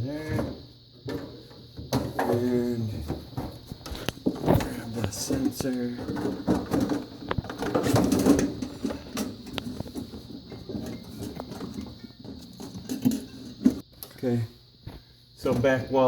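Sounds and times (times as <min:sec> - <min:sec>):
plastic panels rustling and scraping: 0:00.2 - 0:13.8.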